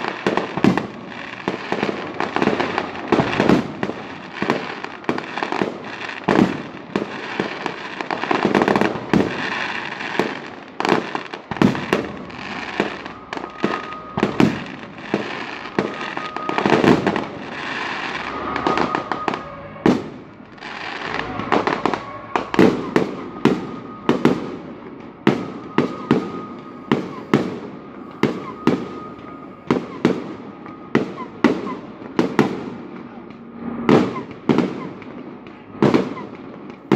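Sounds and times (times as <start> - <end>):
crackle of firework stars: 0.0 - 36.9.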